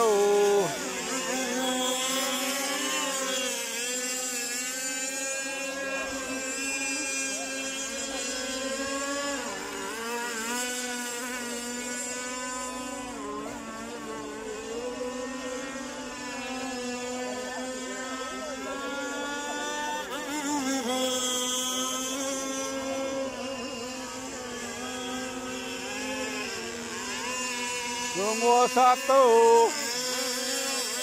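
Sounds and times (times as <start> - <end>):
electric boat motors whining: 0.0 - 31.0.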